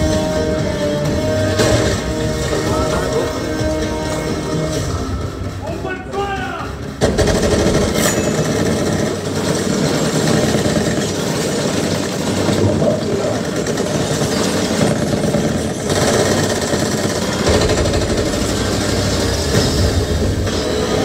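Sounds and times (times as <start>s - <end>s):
movie trailer sound effects: 0.0s - 11.9s, 15.6s - 21.0s.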